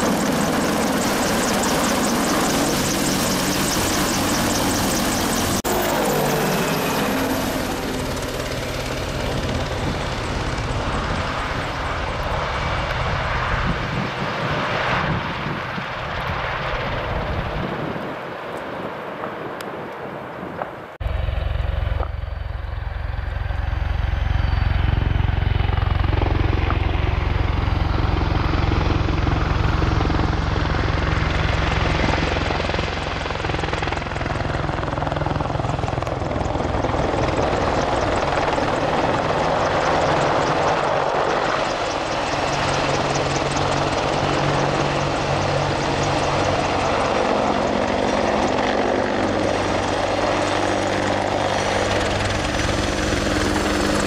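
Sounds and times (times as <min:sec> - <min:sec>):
helicopter engines humming: 0:00.0 - 0:54.0
helicopter rotor beat: 0:00.0 - 0:54.0.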